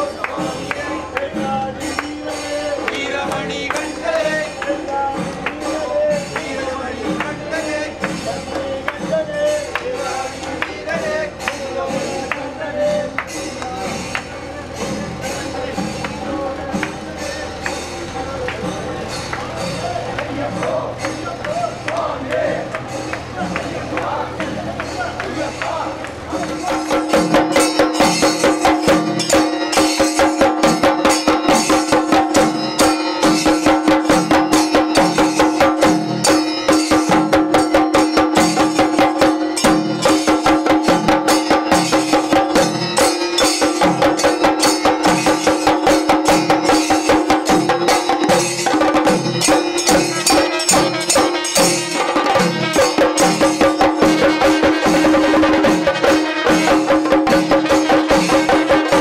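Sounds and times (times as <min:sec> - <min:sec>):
drums beaten rapidly with sticks: 0:00.0 - 0:59.0.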